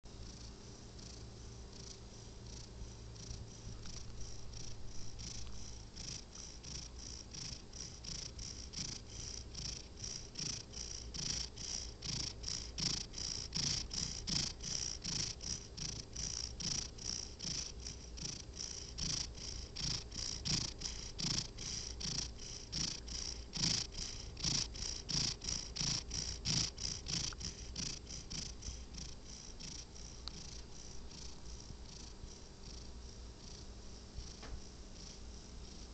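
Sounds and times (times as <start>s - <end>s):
cat snoring: 0.2s - 35.9s.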